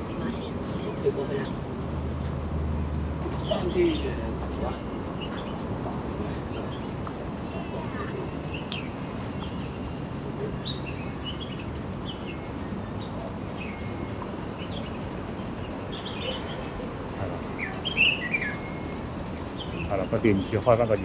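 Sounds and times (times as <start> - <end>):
low hum of street noise: 0.0 - 21.0
small birds chirping: 0.0 - 21.0.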